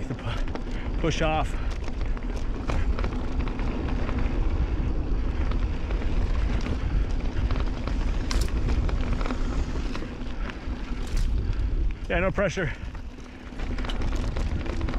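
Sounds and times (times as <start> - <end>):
bike rattling and clicking: 0.0 - 14.9
wind rumble on microphone: 0.0 - 14.9.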